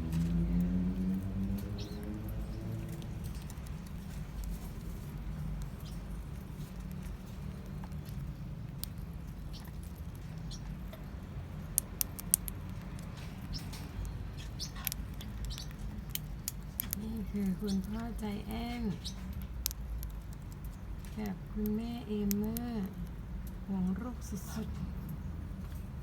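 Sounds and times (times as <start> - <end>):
parrotlets clicking and tapping: 0.0 - 26.0
steady low hum: 0.0 - 26.0.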